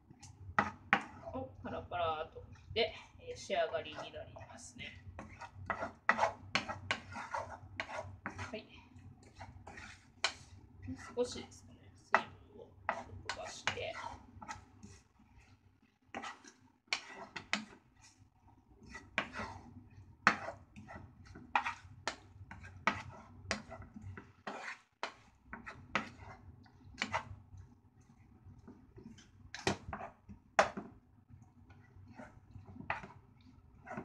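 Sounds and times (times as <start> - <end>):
wooden spatula scraping frying pan: 0.0 - 1.8, 2.4 - 34.0.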